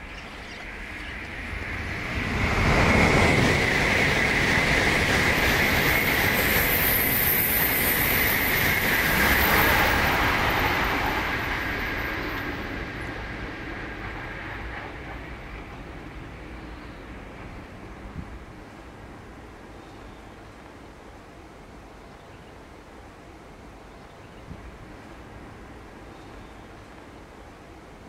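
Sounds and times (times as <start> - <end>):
high-speed train passing: 0.0 - 21.9, 24.6 - 28.0.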